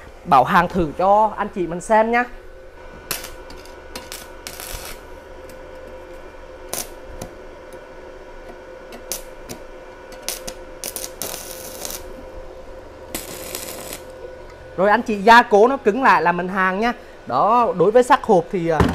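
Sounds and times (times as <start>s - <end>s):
welding arc crackling: 0.0s - 16.5s.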